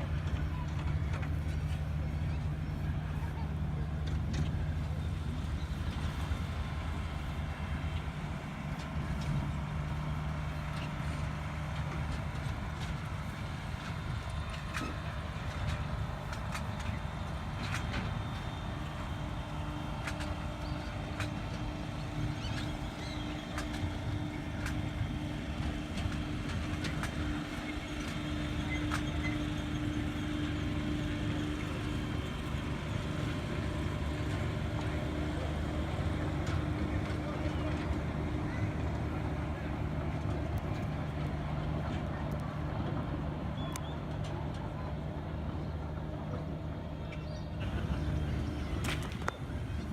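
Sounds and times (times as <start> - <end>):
train engine rumble: 0.0 - 49.9.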